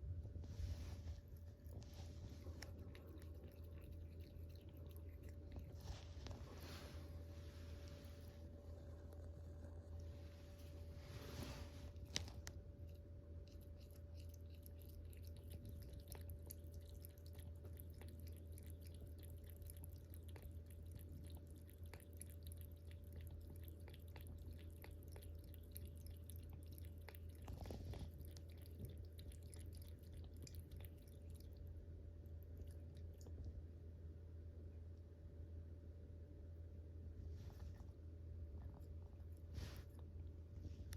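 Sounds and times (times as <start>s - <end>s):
steady low hum: 0.0s - 40.9s
cat lapping water: 0.5s - 33.7s.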